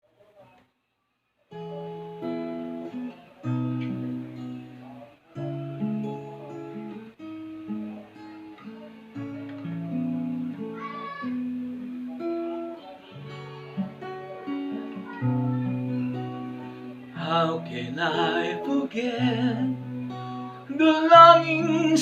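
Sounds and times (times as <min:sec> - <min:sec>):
slow acoustic guitar: 0:01.5 - 0:22.0.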